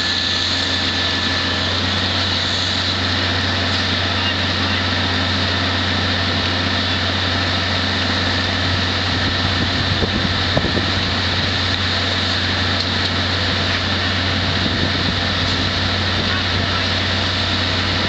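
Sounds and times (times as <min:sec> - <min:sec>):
fire truck engine running: 0:00.0 - 0:18.0.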